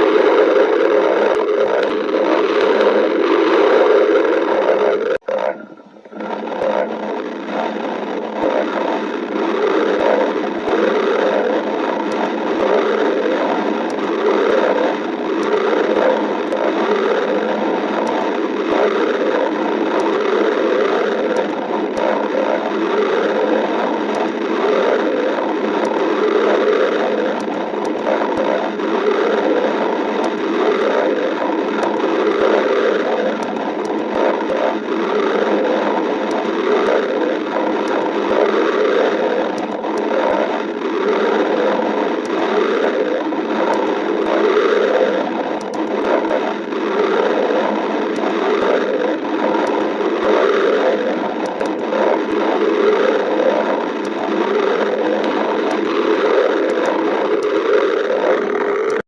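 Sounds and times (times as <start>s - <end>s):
stomach growling: 0.0s - 59.0s
faint clicks: 0.3s - 59.0s.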